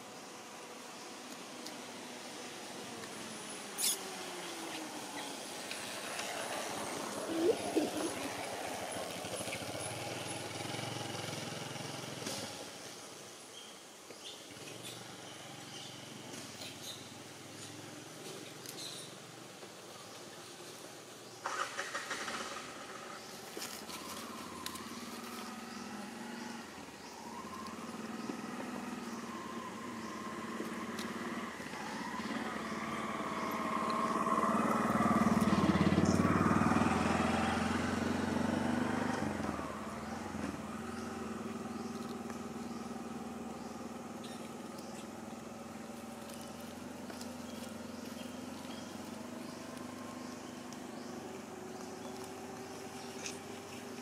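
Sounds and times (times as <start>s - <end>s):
low engine hum: 0.0s - 12.9s, 21.0s - 54.0s
vehicle engine passing: 1.9s - 12.8s, 21.4s - 54.0s.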